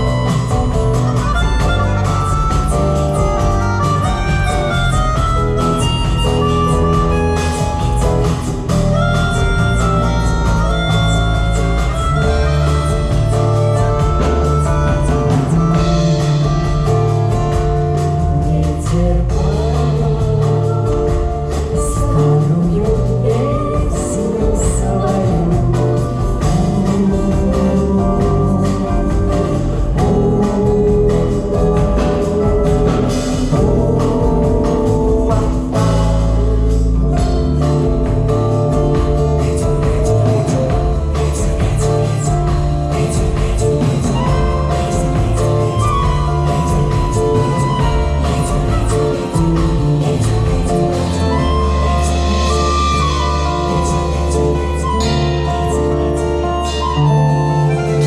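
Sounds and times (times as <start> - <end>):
band playing with singing: 0.0 - 58.0
bass guitar: 0.0 - 58.0
guitar: 0.0 - 58.0.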